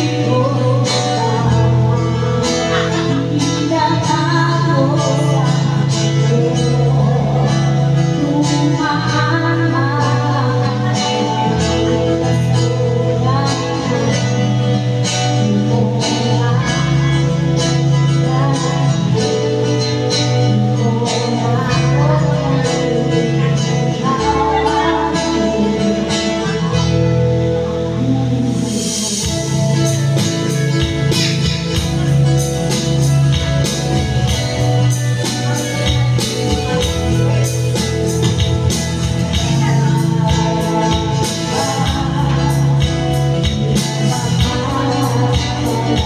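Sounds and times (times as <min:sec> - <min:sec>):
amplified backing music with beat: 0:00.0 - 0:46.0
woman singing into microphone: 0:00.0 - 0:46.0.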